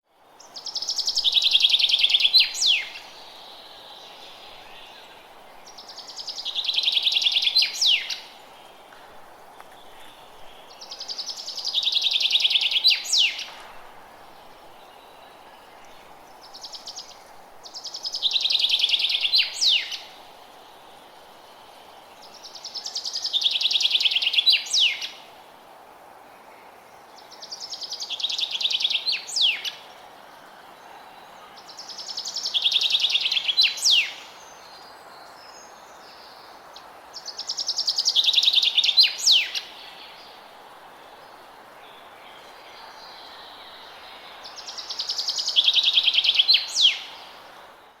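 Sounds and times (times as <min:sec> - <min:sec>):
background hiss: 0:00.0 - 0:48.0.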